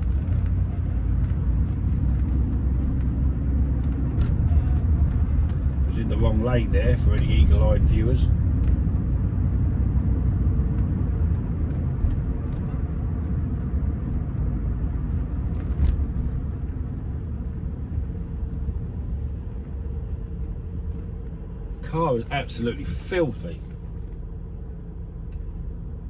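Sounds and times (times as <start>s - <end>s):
car interior engine and road rumble: 0.0s - 26.0s.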